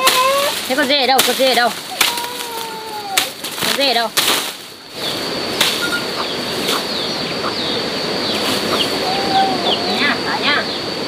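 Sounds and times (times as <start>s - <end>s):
birds chirping: 0.0s - 11.0s
rustling hiss: 0.0s - 11.0s
steady high whine: 0.6s - 11.0s.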